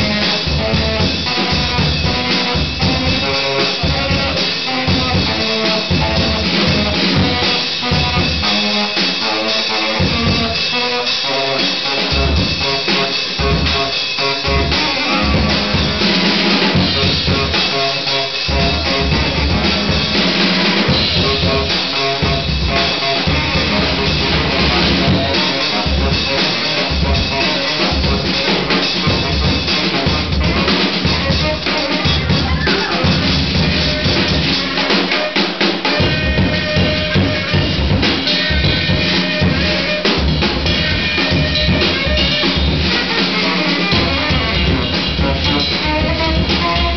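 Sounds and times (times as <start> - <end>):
drum kit played busily: 0.0 - 46.9
reed instrument playing lines: 0.0 - 46.9.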